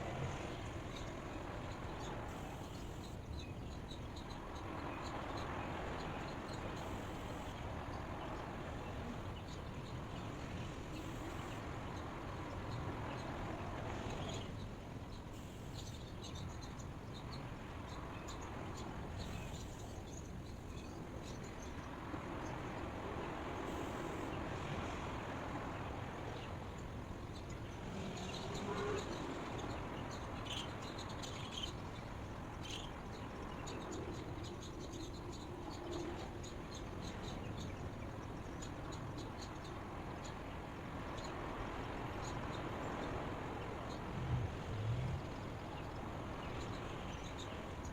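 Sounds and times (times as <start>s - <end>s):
small birds chirping: 0.0s - 47.9s
white noise hiss: 0.0s - 47.9s.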